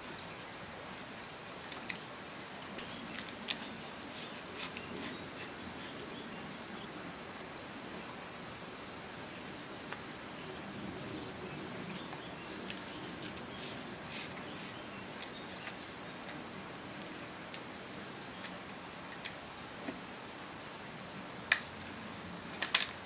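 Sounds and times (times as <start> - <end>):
outdoor hiss: 0.0 - 23.0.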